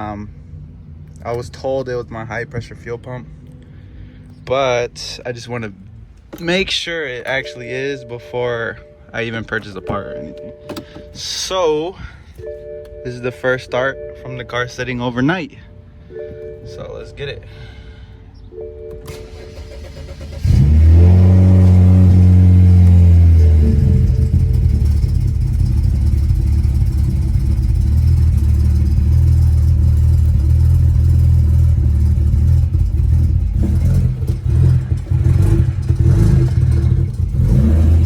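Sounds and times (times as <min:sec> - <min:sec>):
car engine cranking and idling: 0:00.0 - 0:38.0.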